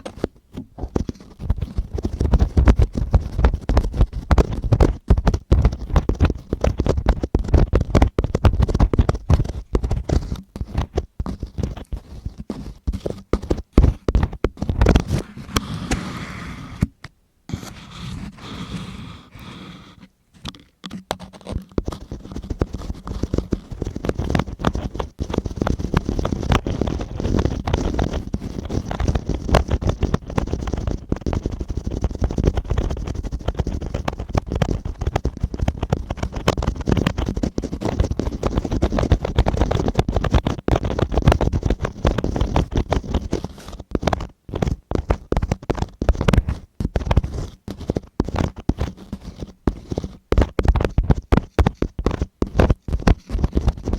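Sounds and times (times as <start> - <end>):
tool scratching against microphone: 0.0 - 53.9.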